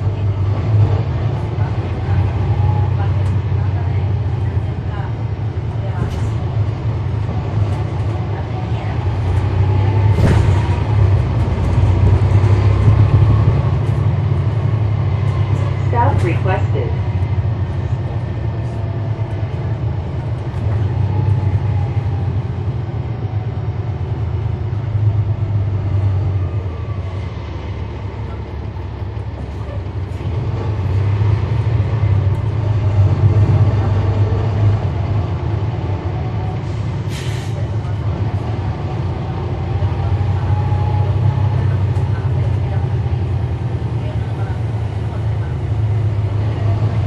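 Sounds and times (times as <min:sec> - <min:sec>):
bus diesel engine rumbling: 0:00.0 - 0:47.0.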